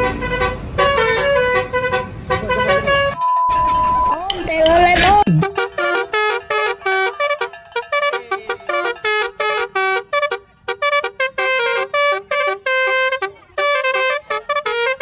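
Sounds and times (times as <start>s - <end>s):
multi-tone bus air horn melody: 0.0s - 3.2s, 5.4s - 15.0s.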